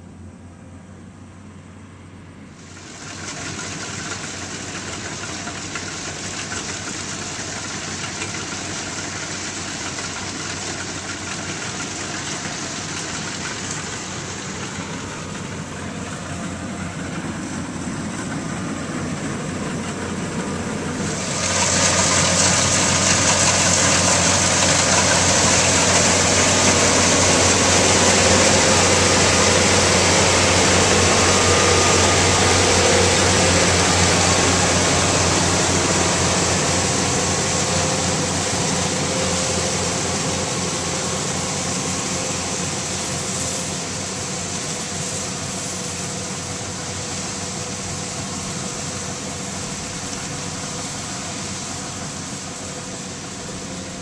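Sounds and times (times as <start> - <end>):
combine harvester engine and threshing: 0.0 - 54.0.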